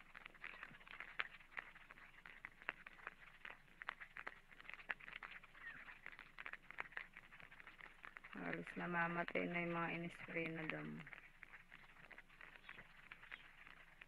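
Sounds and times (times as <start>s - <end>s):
faint clicking and crackling: 0.0s - 14.0s.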